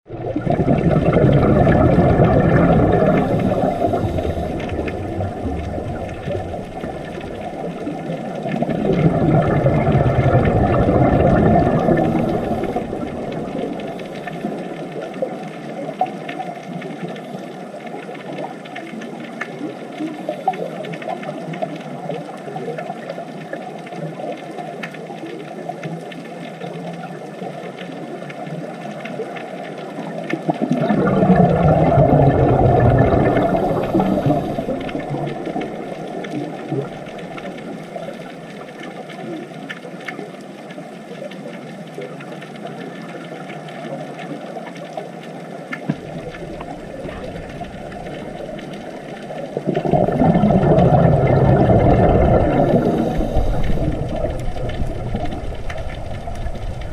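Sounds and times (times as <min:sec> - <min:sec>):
underwater rushing: 0:00.0 - 0:56.9.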